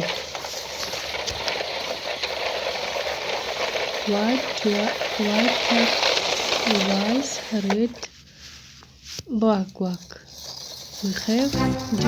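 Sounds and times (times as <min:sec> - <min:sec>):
toy truck crunching through snow: 0:00.0 - 0:08.1, 0:09.9 - 0:12.0.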